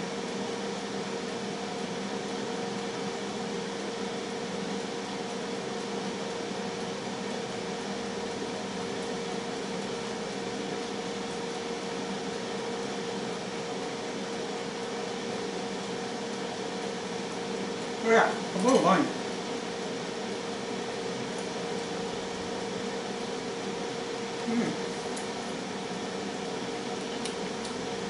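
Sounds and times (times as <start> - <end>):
air fryer fan whirring: 0.0 - 28.0.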